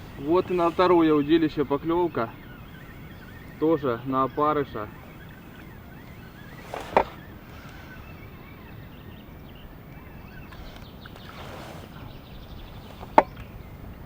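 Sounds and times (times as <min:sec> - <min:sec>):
faint bird chirps: 0:00.0 - 0:14.0
outdoor background noise: 0:00.0 - 0:14.0.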